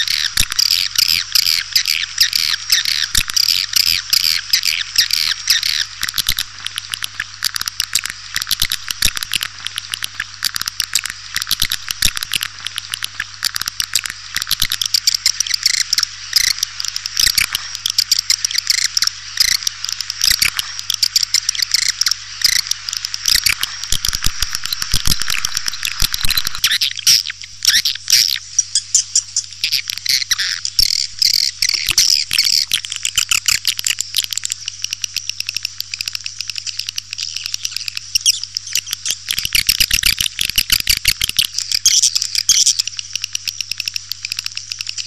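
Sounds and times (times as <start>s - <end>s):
steady low hum: 0.0s - 40.6s
swiftlets twittering: 0.0s - 40.8s.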